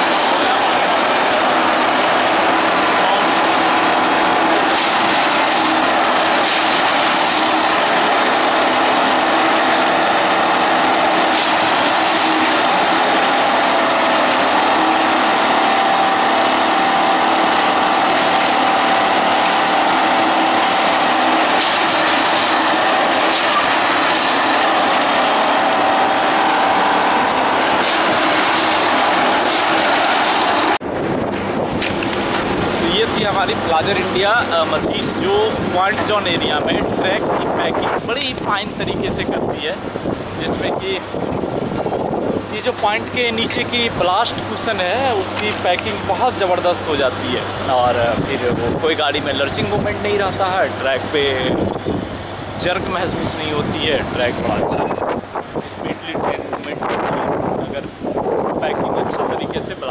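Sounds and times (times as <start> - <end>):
tamping machine engine running: 0.0 - 39.2, 39.8 - 56.8.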